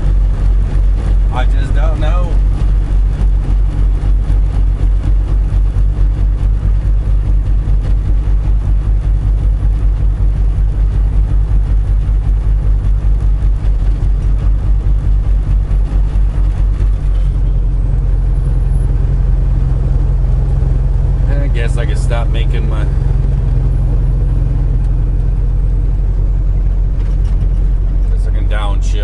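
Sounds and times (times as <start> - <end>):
truck diesel engine drone: 0.0 - 29.0.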